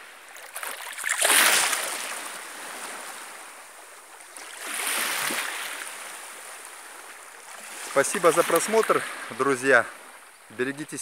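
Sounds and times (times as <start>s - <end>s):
water sloshing from wading: 0.0s - 10.5s
gentle water wash: 0.0s - 11.0s.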